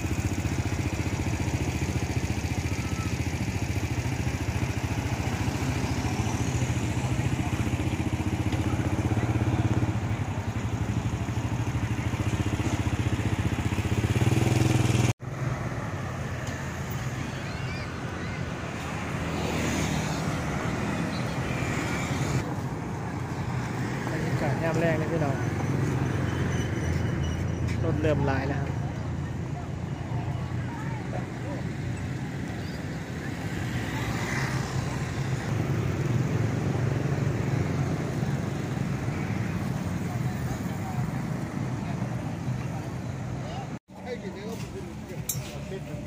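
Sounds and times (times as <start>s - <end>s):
street traffic hum: 0.0s - 46.0s.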